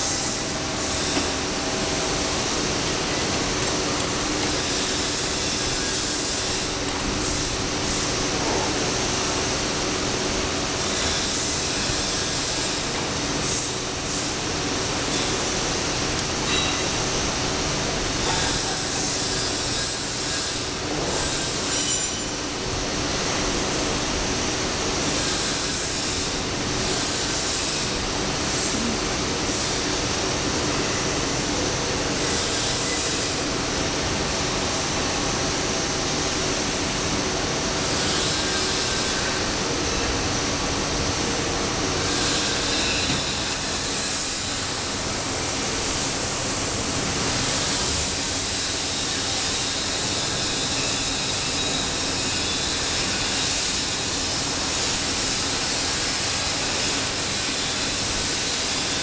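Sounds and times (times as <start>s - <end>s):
loud machine noise: 0.0s - 59.0s.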